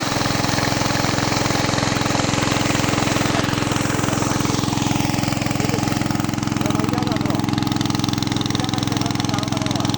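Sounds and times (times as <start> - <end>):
petrol engine running: 0.0 - 9.9.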